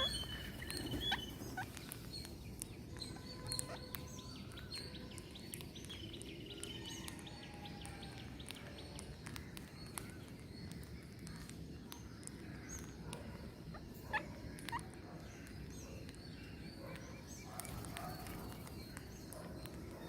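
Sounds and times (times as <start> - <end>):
birds chirping and calling: 0.0 - 20.0
low background noise: 0.0 - 20.0.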